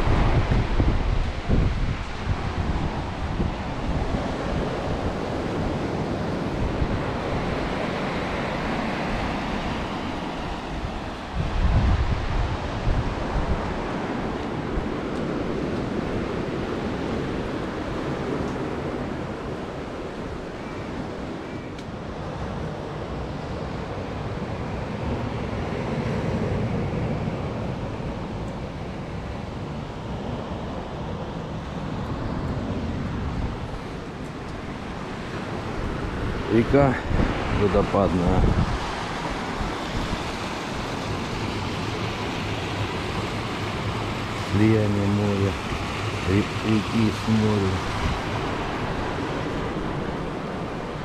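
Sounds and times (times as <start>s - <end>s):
wind buffeting microphone: 0.0s - 21.4s, 22.0s - 51.0s
surf on a pebble beach: 0.0s - 51.0s.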